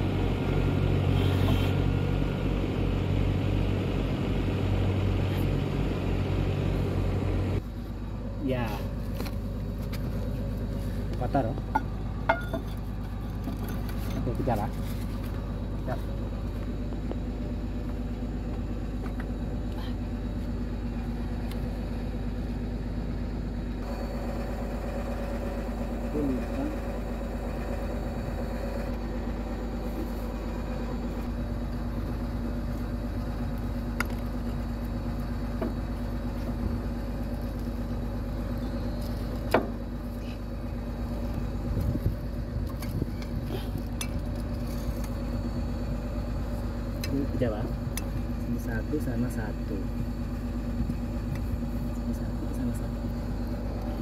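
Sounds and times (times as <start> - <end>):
excavator diesel engine idling: 0.0 - 54.0.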